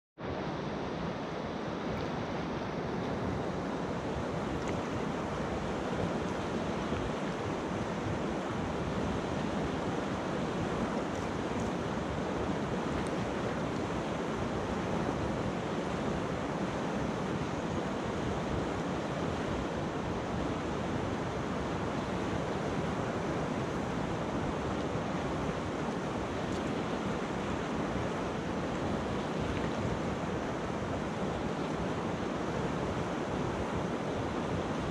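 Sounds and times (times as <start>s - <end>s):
river rushing over pebbles: 0.3s - 34.9s.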